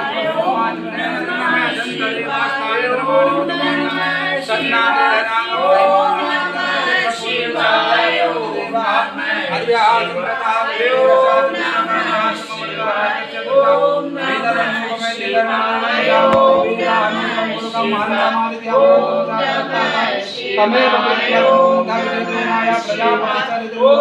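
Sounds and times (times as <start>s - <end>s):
melodic chanting: 0.0s - 24.0s.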